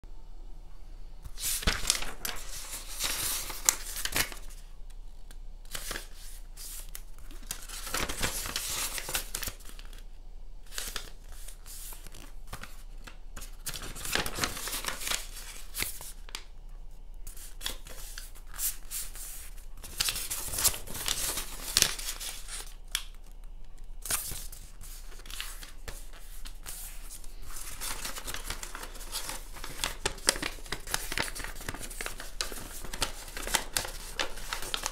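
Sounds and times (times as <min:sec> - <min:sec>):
paper rustling: 0:01.3 - 0:04.8, 0:05.6 - 0:16.5, 0:17.2 - 0:34.9.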